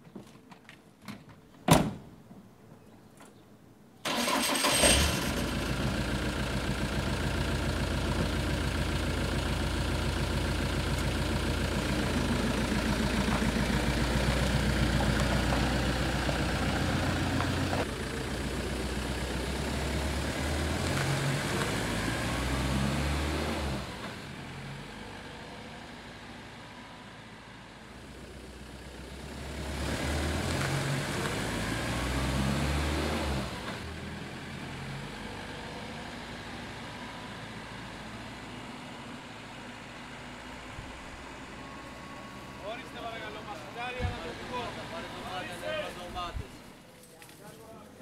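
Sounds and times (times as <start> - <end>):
diesel van engine: 4.0 - 47.0.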